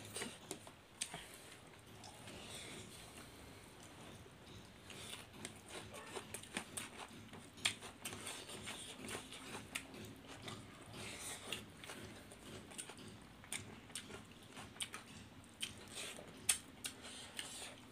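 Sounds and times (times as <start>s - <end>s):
people chewing and lip smacking: 0.0s - 17.9s.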